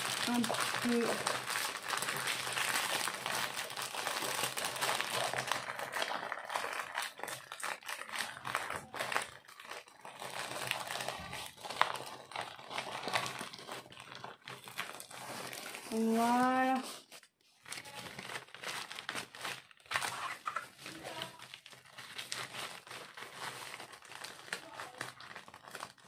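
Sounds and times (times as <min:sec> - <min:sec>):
plastic zip bag crinkling: 0:00.0 - 0:26.0.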